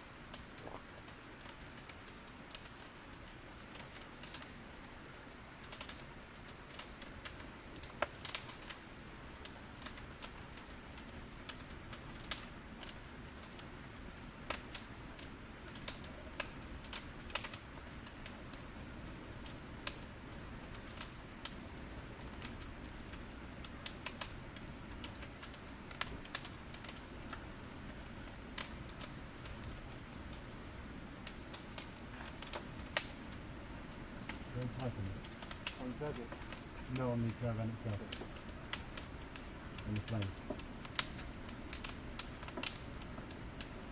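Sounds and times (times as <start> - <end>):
fire crackling pops and snaps: 0.0 - 43.9
low rush of burning: 0.0 - 43.9.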